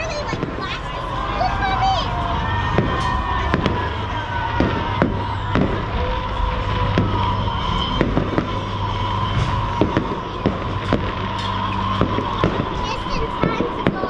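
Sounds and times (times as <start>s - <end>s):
fireworks bangs: 0.0s - 14.0s
steady background din: 0.0s - 14.0s.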